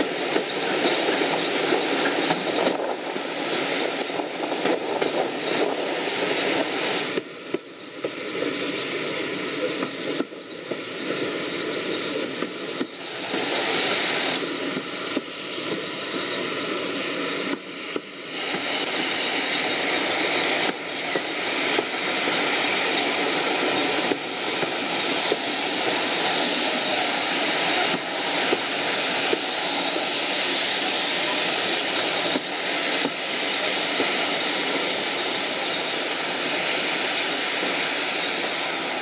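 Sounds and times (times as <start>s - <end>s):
steam locomotives working: 0.0s - 39.0s
train running roar: 0.0s - 39.0s.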